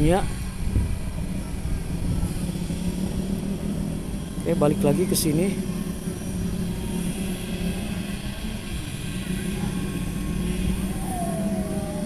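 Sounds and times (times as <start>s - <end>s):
drone propellers buzzing: 0.0s - 12.0s
faint high whine: 0.0s - 12.0s.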